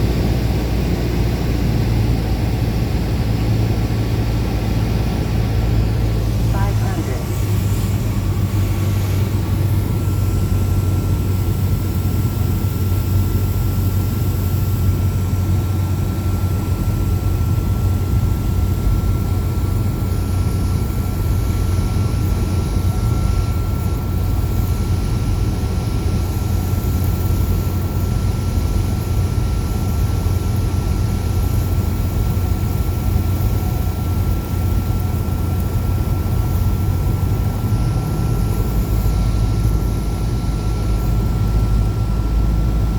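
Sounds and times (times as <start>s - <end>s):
propeller plane engine drone: 0.0s - 42.9s.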